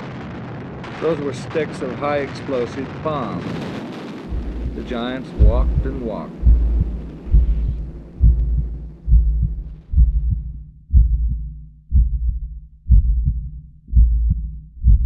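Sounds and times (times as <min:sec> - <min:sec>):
deep muffled bomb booms: 0:00.0 - 0:15.0.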